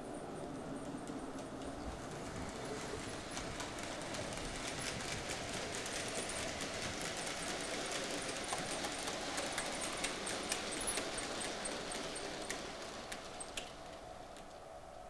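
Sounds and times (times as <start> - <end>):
wheels clicking on track: 0.4 - 14.7
model train motor hum: 1.9 - 14.5.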